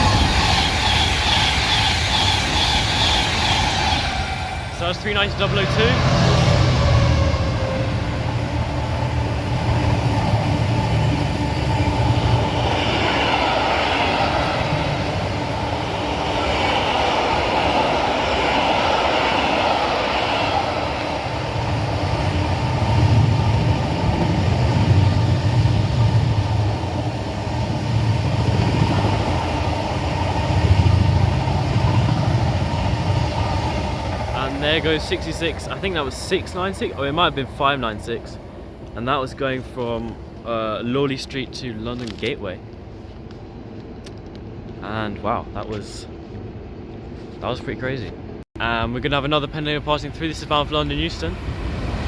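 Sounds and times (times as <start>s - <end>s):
freight wagons rumbling over rails: 0.0s - 42.9s
diesel locomotive engine: 0.0s - 52.0s.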